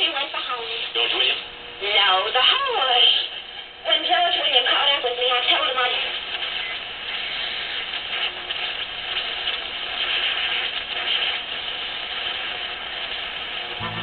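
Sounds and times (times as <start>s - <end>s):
faint radio crackle: 0.0s - 14.0s
shortwave radio static and hiss: 0.0s - 14.0s.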